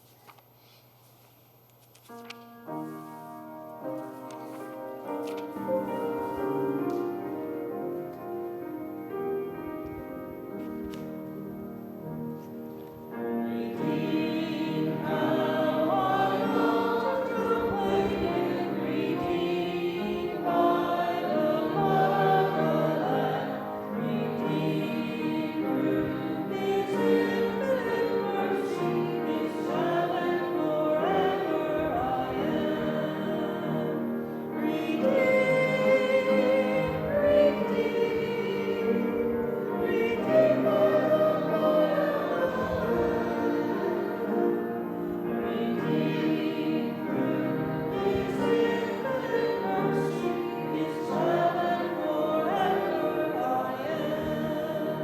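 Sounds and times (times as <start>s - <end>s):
congregation singing a hymn: 2.7s - 55.0s.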